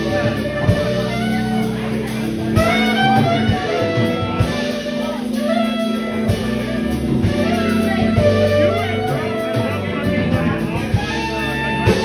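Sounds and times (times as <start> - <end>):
live jazz band: 0.0 - 12.0
saxophone melody: 0.0 - 12.0.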